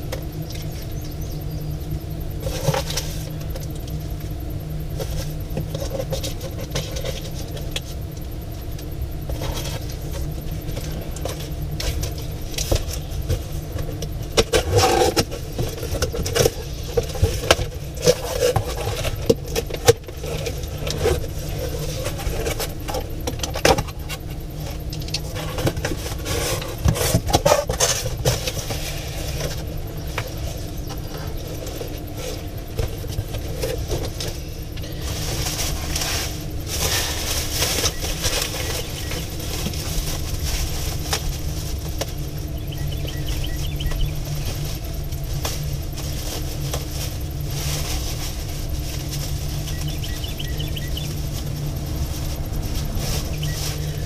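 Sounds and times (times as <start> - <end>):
low motor hum: 0.0 - 54.0.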